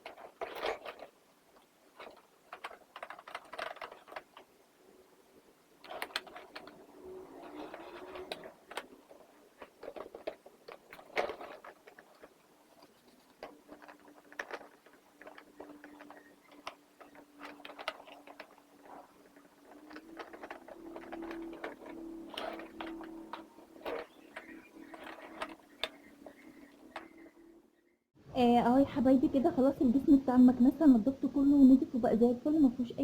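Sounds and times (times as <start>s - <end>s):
plastic parts clicking and knocking: 0.0s - 27.8s
faint steady hum: 0.0s - 33.0s.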